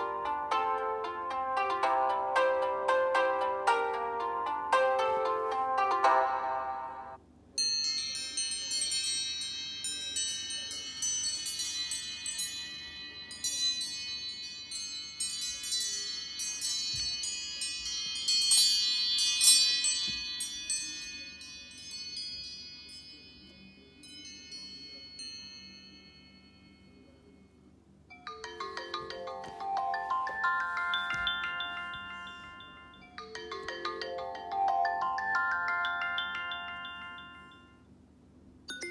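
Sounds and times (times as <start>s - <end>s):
bell-like chiming ringtone: 0.0s - 27.5s, 28.1s - 38.0s.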